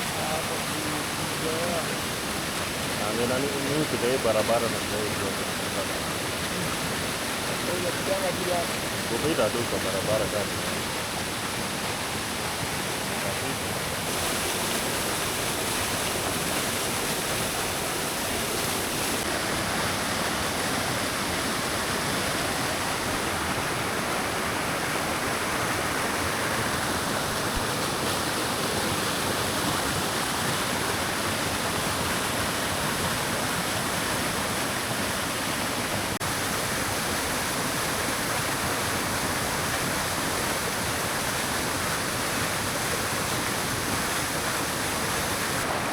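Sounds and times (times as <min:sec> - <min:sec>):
rushing river water: 0:00.0 - 0:45.9.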